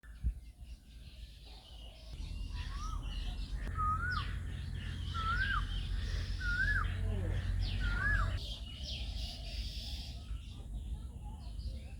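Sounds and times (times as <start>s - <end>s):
birds whistling and chirping: 0.7s - 10.4s.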